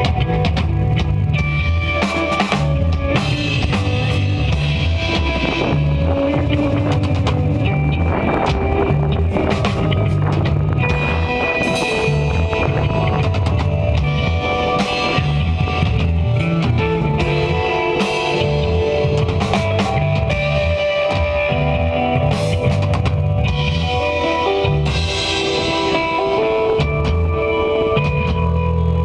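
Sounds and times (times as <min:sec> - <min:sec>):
bass guitar: 0:00.0 - 0:29.0
drum kit: 0:00.0 - 0:29.0
electric guitar holding long notes: 0:00.0 - 0:29.0.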